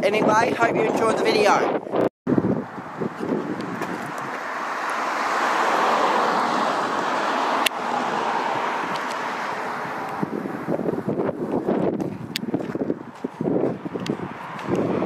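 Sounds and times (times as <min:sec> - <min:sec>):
car passing on road: 0:02.3 - 0:15.0.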